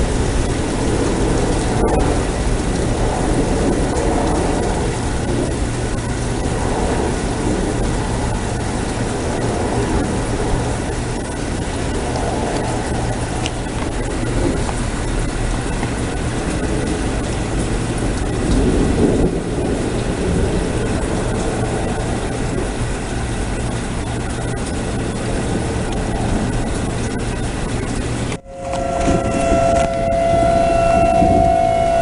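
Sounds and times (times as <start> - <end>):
thunderstorm roar: 0.0 - 32.0
tornado siren two-note wail: 0.0 - 32.0.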